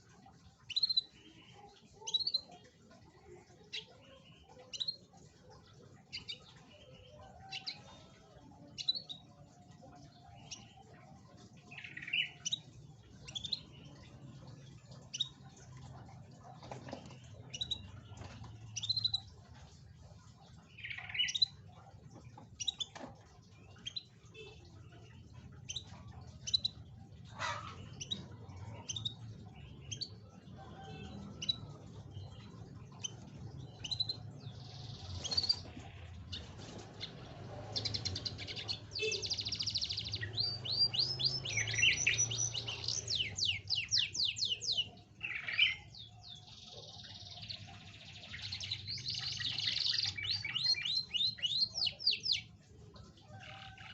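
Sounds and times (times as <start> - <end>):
canary singing: 0.4 - 52.6.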